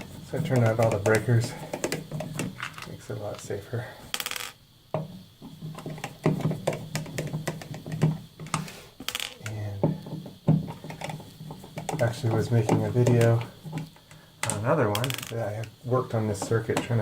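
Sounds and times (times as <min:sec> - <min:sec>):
hand tools clicking and knocking: 0:00.0 - 0:03.5, 0:05.0 - 0:17.0.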